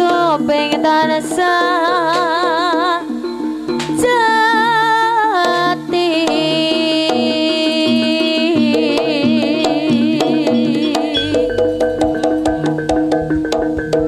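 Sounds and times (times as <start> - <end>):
drum strokes: 0.0 - 14.0
steady ringing tones: 0.0 - 14.0
wavering held melody notes: 0.0 - 14.0.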